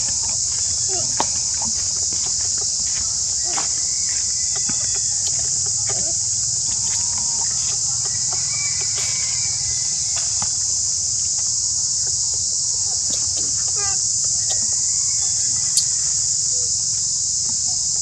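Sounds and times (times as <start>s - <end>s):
insect chorus buzzing: 0.0s - 18.0s.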